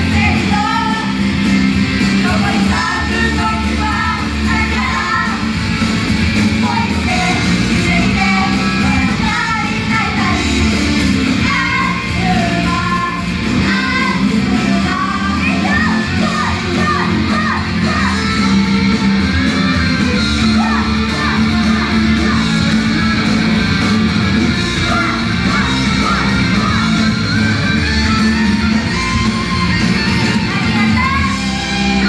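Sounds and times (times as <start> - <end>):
driving guitars and drums: 0.0 - 32.0
group vocals over rock pop: 0.0 - 32.0.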